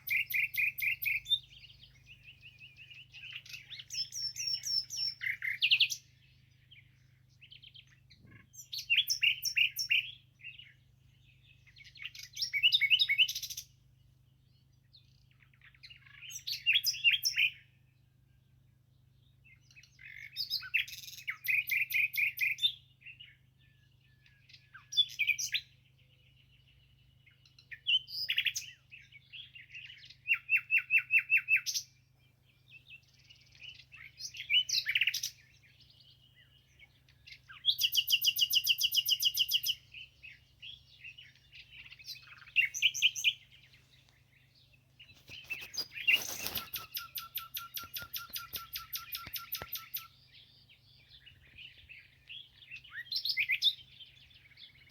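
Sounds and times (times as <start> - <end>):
songbird singing trills: 0.0 - 54.9.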